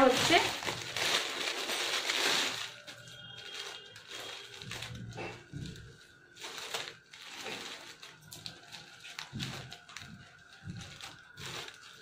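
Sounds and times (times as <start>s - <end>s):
fabric and packaging rustling: 0.0s - 12.0s.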